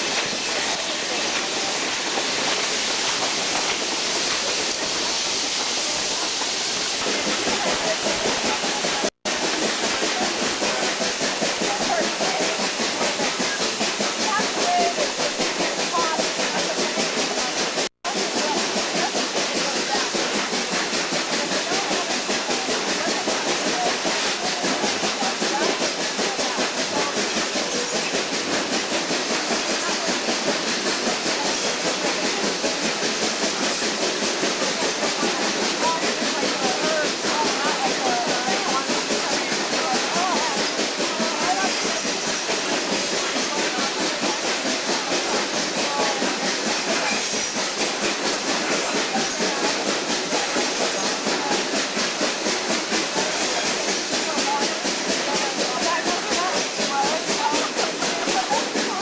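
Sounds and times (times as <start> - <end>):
steam hiss: 0.0 - 59.0
steam locomotive exhaust chuffs: 0.0 - 59.0
train rolling on track: 0.0 - 59.0.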